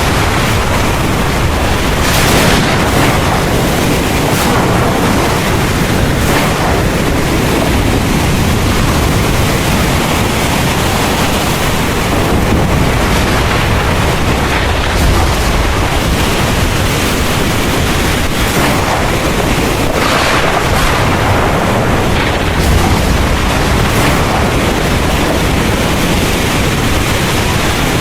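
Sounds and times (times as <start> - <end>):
deep low rumble: 0.0 - 27.6
heavy rain hissing: 0.0 - 28.0.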